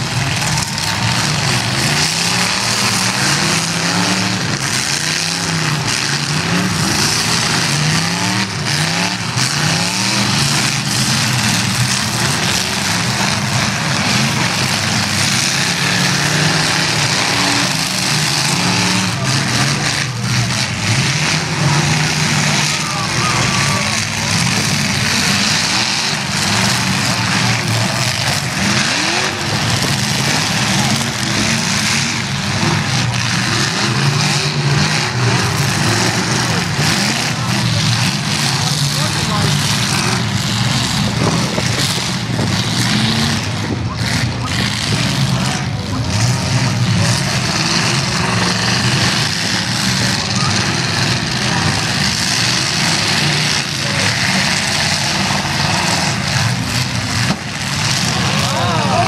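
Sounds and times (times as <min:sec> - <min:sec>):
car engines revving: 0:00.0 - 0:59.0
cars crashing: 0:00.0 - 0:59.0.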